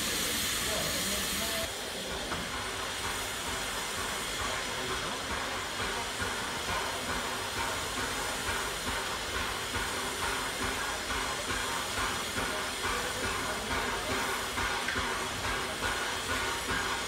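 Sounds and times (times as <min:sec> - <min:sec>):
steam hissing: 0:00.0 - 0:17.0
steam locomotive exhaust chuffing: 0:00.0 - 0:17.0.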